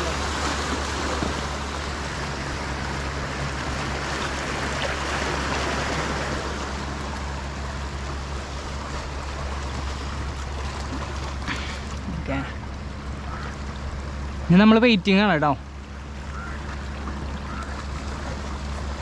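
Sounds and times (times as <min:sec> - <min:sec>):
low steady hum: 0:00.0 - 0:19.0
water rushing: 0:00.0 - 0:19.0.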